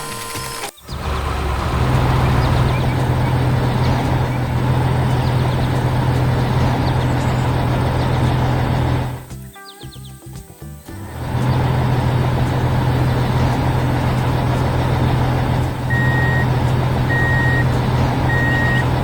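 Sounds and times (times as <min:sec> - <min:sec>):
heavy vehicle engine humming: 0:00.8 - 0:09.3, 0:10.9 - 0:19.0.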